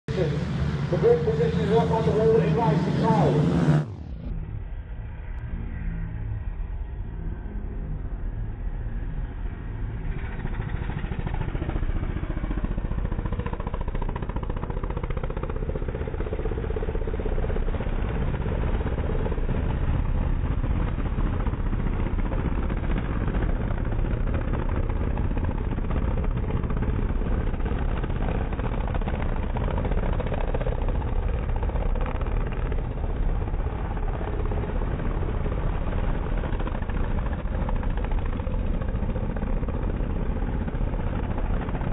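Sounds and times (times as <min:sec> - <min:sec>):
pit bike engine running: 0:00.1 - 0:04.8, 0:08.5 - 0:41.9.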